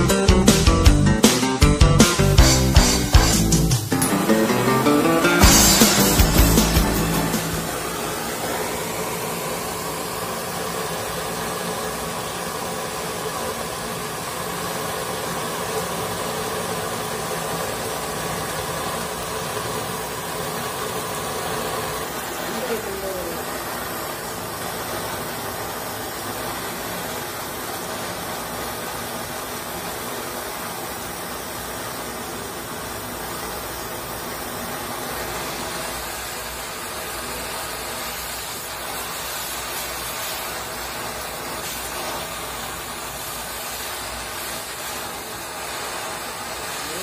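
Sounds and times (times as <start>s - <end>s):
gas torch flame hissing: 2.2s - 47.0s.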